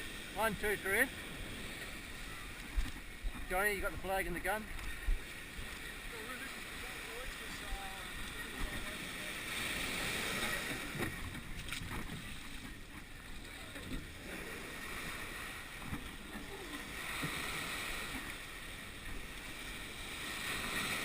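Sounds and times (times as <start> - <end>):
water washing against hull: 0.0 - 21.0.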